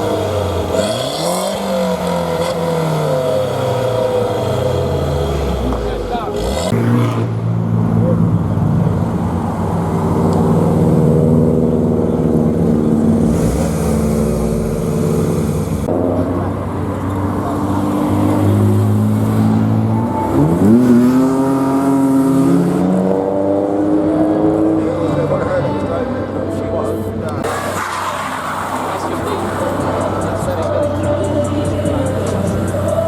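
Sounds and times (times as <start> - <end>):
engine revving up: 0.0 - 9.0, 9.8 - 16.5, 17.4 - 25.6, 27.4 - 33.0
car engines running: 0.0 - 33.0.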